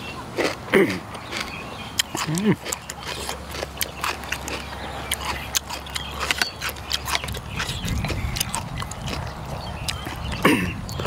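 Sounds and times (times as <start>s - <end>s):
wet chewing clicks and smacks: 0.4s - 11.0s.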